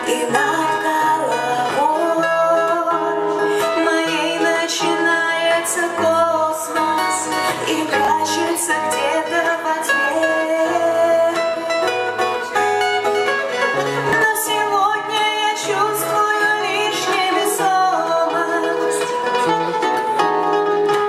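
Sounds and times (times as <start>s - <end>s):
live instrumental band music: 0.0s - 21.0s.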